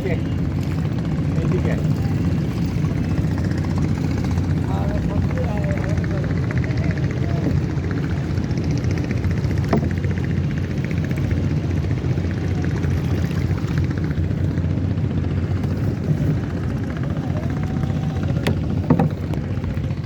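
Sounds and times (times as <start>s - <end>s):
motorboat engine chugging: 0.0s - 20.0s.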